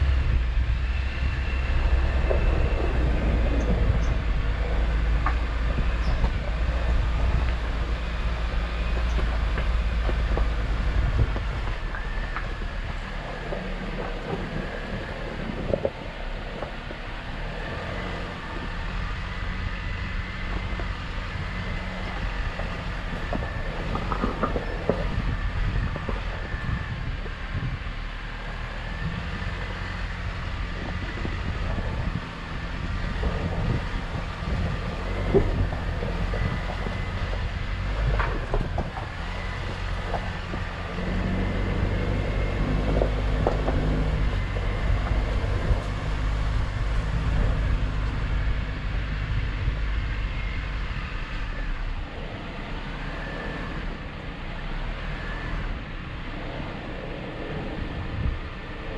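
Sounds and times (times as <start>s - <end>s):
car engine running low: 0.0s - 58.9s
tyres grinding over loose rock: 0.8s - 27.7s, 28.4s - 50.5s.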